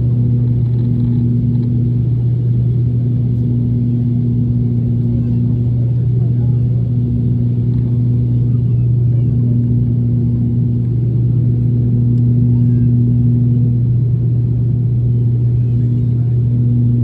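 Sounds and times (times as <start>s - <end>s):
turboprop airliner cabin drone: 0.0s - 17.0s.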